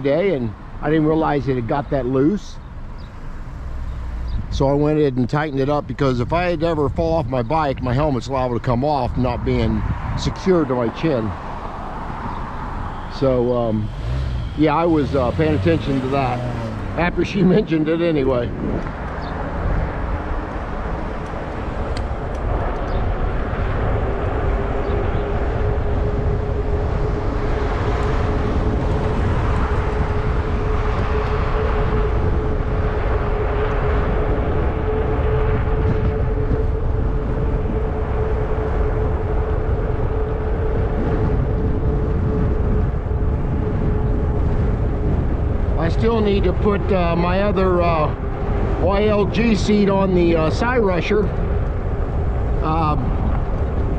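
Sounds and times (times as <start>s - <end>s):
electric bike hum: 0.0s - 53.9s
wind buffeting microphone: 0.0s - 53.9s.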